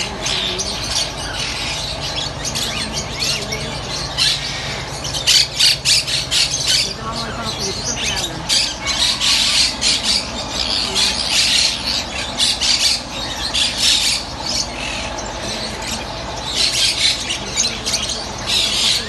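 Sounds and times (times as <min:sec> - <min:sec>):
caged birds squawking: 0:00.0 - 0:19.0.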